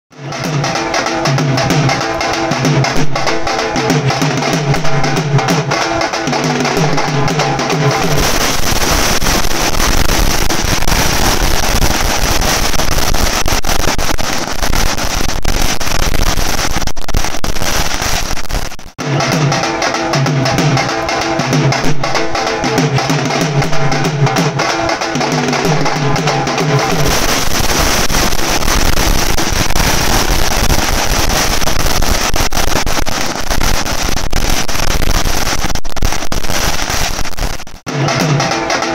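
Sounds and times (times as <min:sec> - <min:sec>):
drummers beating drums: 0:00.2 - 0:38.9
firecrackers crackling: 0:00.4 - 0:38.9.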